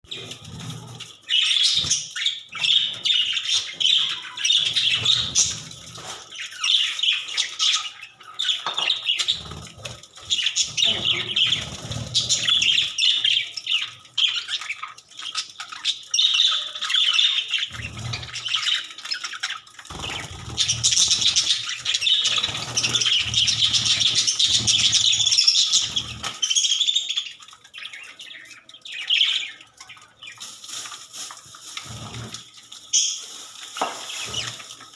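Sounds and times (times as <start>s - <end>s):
budgerigars chattering and chirping: 0.1s - 30.4s.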